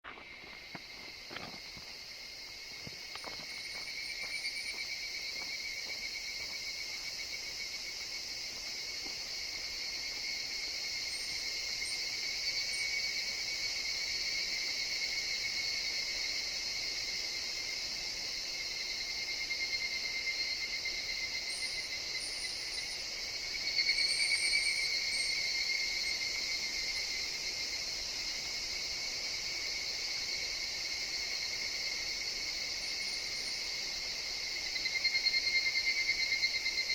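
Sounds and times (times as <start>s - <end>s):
cicadas droning: 0.0s - 36.9s.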